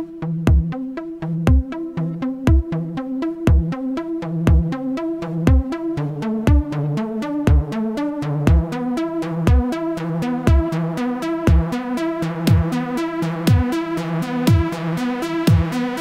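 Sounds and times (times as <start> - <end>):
electronic music with drum machine: 0.0 - 16.0.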